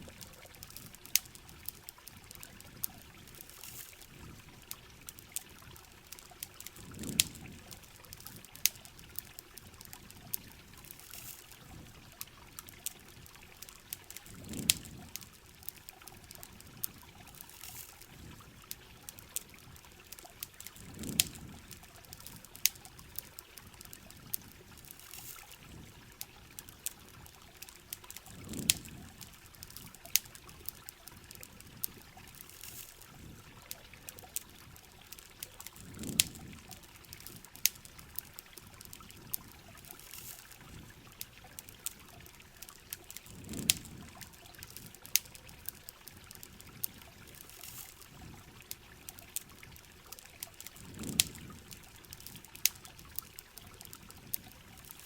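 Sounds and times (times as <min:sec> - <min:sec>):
campfire crackling: 0:00.0 - 0:55.0
steady rain: 0:00.0 - 0:55.0.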